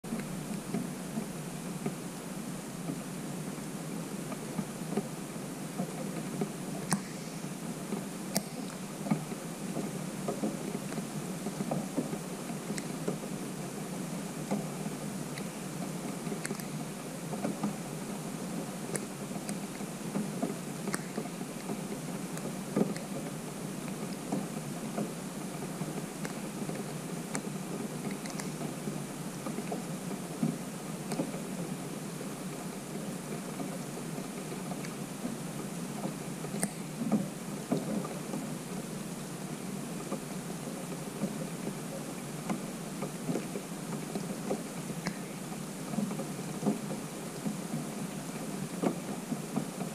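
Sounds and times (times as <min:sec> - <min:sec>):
rain falling on pond: 0:00.0 - 0:49.9
raindrops pattering: 0:00.1 - 0:49.9.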